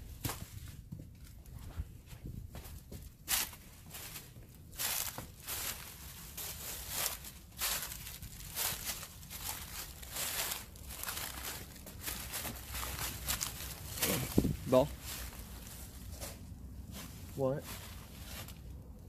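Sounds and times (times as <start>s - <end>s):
footsteps crunching on dry leaves: 1.5s - 18.8s.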